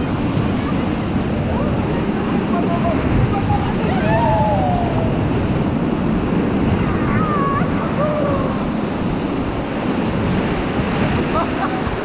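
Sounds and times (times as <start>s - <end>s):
rushing river water: 0.0s - 12.0s
wind buffeting microphone: 0.0s - 12.0s.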